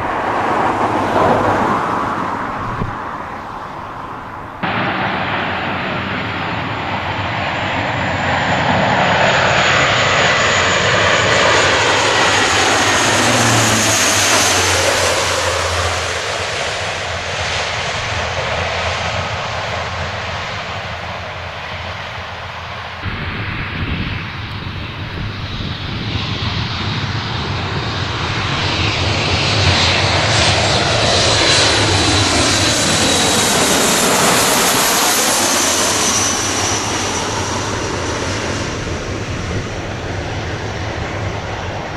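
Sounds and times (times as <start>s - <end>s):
high engine whine: 0.0s - 41.9s
jet engines roaring: 0.0s - 41.9s.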